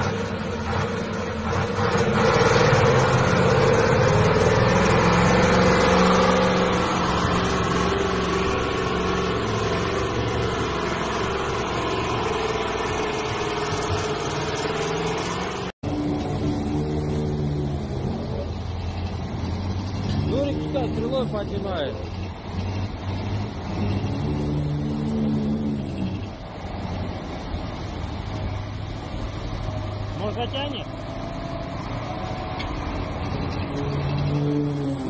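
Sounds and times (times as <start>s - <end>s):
truck diesel engine labouring: 0.0s - 35.0s.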